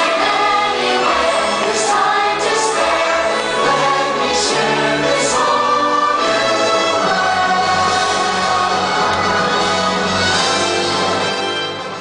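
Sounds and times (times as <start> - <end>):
choir holding long notes: 0.0 - 12.0
orchestra playing: 0.0 - 12.0.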